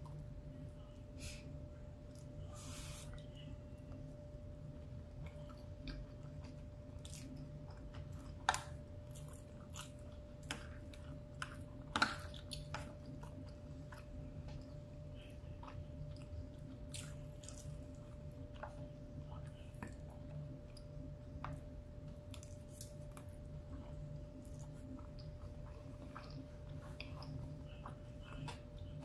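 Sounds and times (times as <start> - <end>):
person chewing food: 1.9 - 29.0.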